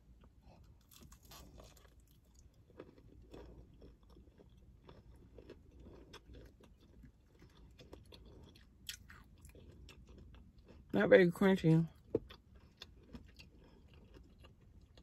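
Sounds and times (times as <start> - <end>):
chewing fried chicken: 0.0 - 15.0.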